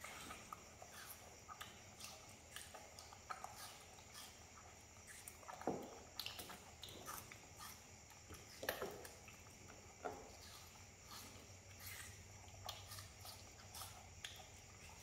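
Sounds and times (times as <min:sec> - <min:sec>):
monkeys chewing wetly: 0:00.0 - 0:15.0.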